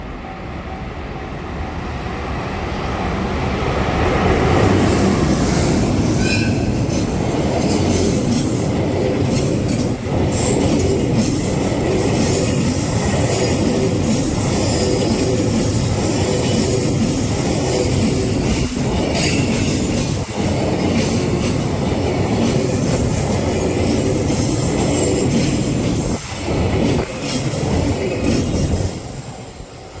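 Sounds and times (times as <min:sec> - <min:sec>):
freight train passing: 0:00.0 - 0:30.0.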